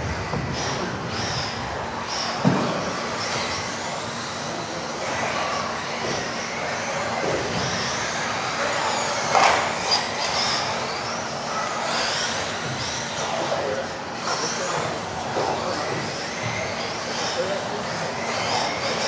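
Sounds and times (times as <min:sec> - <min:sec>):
rc car motors whining: 0:00.0 - 0:19.0.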